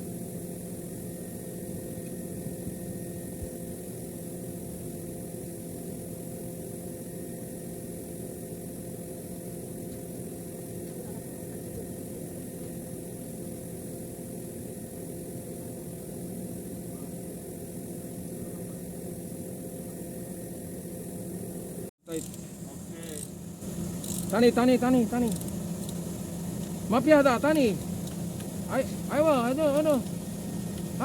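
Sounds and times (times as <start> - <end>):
machinery hum: 0.0 - 31.0.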